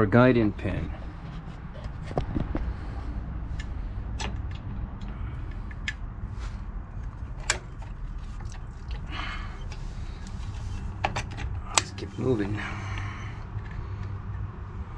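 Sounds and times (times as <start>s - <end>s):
low background rumble: 0.0s - 14.9s.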